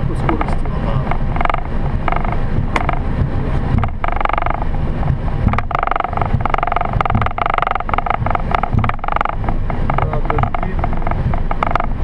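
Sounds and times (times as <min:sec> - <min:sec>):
jet engines idling rumble: 0:00.0 - 0:12.0
muffled mid-pitched hum: 0:00.0 - 0:12.0
cockpit knocks and creaks: 0:00.1 - 0:12.0.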